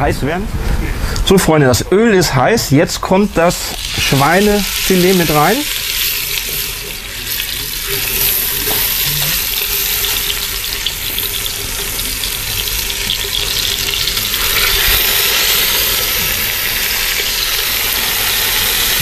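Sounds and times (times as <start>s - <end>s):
meat sizzling in hot oil: 3.5s - 19.0s.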